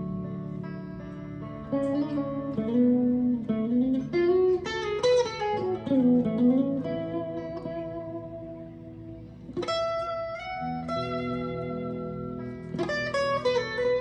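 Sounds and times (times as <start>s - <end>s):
electric guitar lead with bends: 0.0s - 14.0s.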